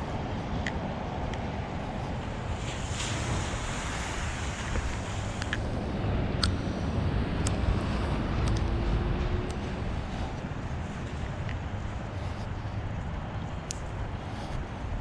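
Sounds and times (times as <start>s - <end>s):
traffic rumble: 0.0s - 15.0s
wind on microphone: 0.0s - 15.0s.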